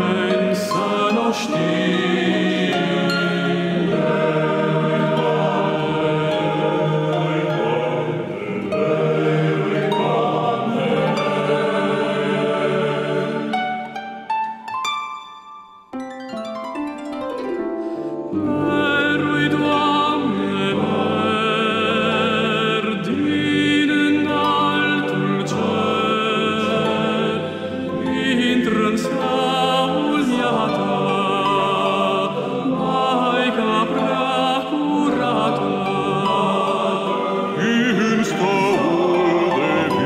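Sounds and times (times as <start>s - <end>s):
male choir singing: 0.0s - 13.9s, 18.4s - 40.0s.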